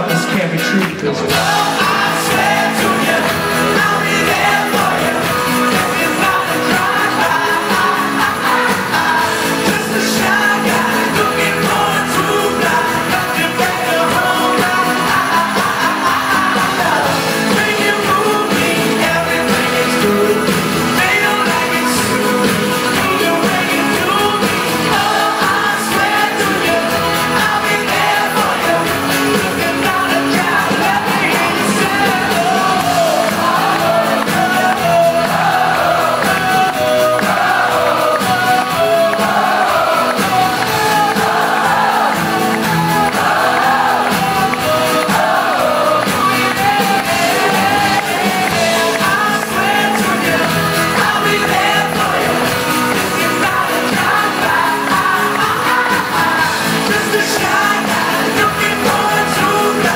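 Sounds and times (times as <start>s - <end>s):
person singing: 0.0s - 59.9s
pop-rock band playing: 0.0s - 59.9s.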